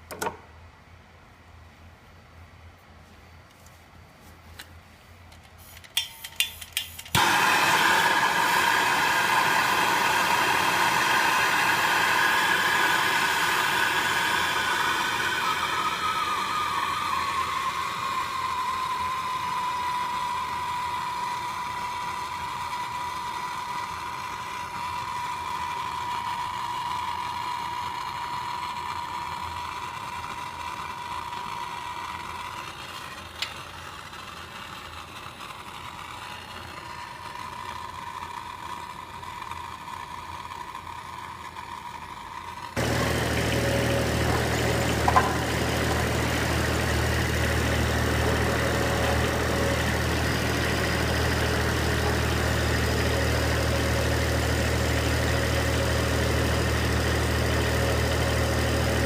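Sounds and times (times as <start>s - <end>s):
heat gun blowing with fan whine: 5.3s - 59.0s.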